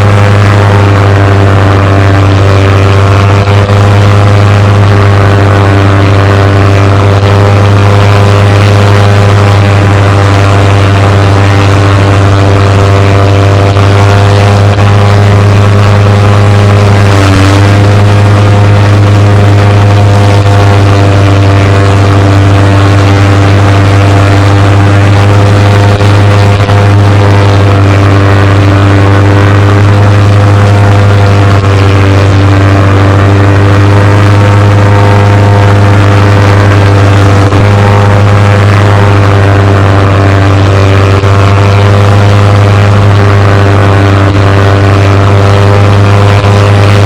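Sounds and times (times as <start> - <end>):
propeller aircraft engine: 0.0 - 47.0.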